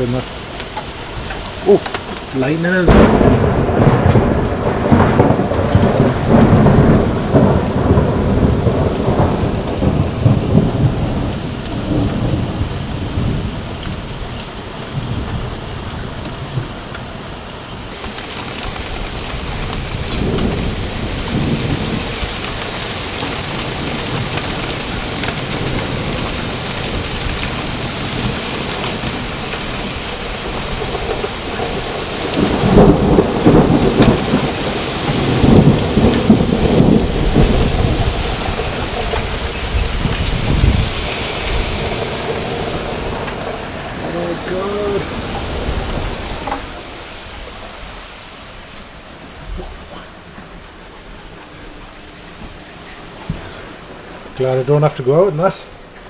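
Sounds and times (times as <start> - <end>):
thunder rumbling: 0.0 - 52.6
heavy rain and hail: 0.0 - 56.0.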